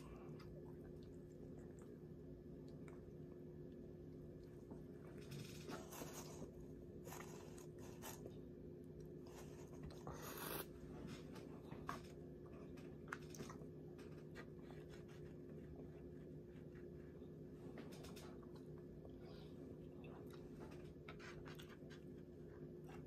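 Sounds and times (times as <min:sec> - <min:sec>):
chewing: 0:00.0 - 0:16.9, 0:17.9 - 0:23.0
steady hum: 0:00.0 - 0:23.0.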